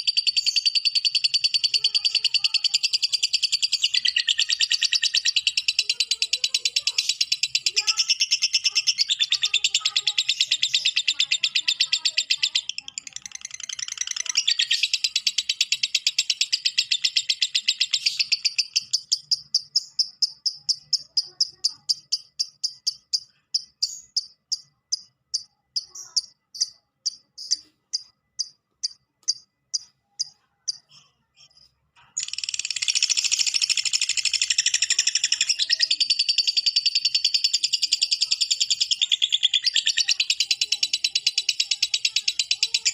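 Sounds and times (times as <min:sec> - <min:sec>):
lovebird chattering trill: 0:00.0 - 0:42.9.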